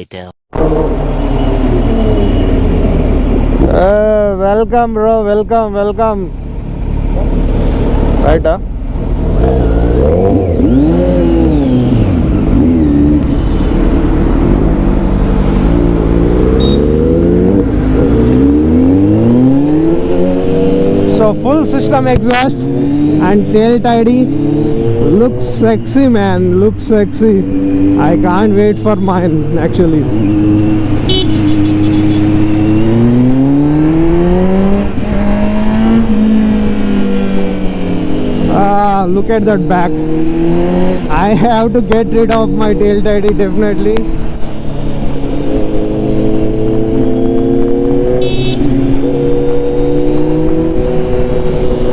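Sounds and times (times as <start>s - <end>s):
motorcycle engine accelerating: 6.8s - 51.9s.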